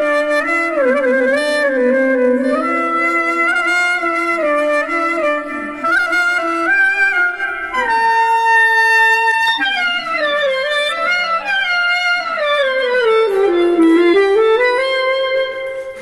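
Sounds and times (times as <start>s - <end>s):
clarinet-like melody: 0.0s - 16.0s.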